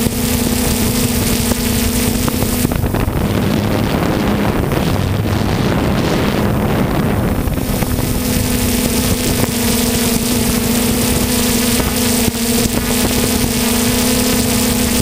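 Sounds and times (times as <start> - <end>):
drone motors humming: 0.0 - 15.0
rush of air: 0.0 - 15.0.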